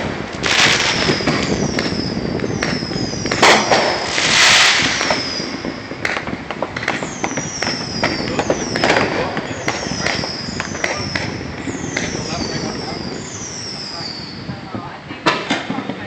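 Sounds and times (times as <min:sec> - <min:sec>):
sharp firework bang: 0:00.0 - 0:15.8
distant firework bursts and crackling: 0:00.0 - 0:16.0
falling firework whistles: 0:00.4 - 0:14.6.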